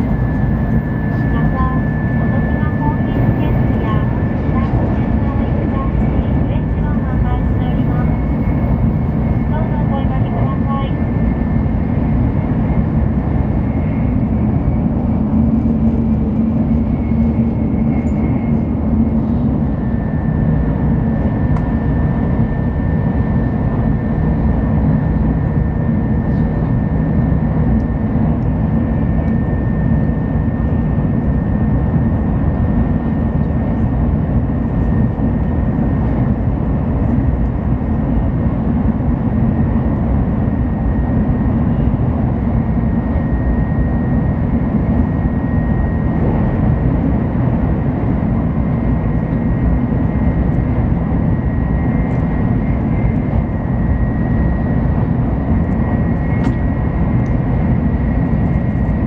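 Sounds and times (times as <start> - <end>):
train rumble and rushing: 0.0 - 59.0.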